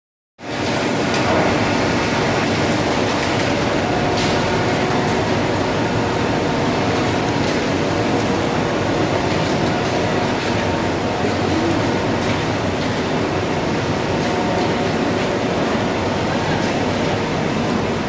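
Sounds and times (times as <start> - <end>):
belt conveyor running: 0.4 - 18.0.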